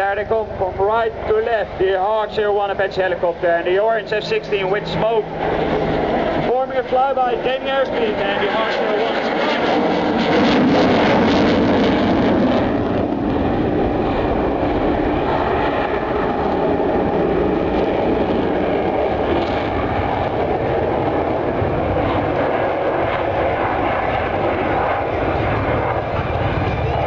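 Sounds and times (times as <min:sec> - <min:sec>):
jet and helicopter roar: 0:00.0 - 0:27.0.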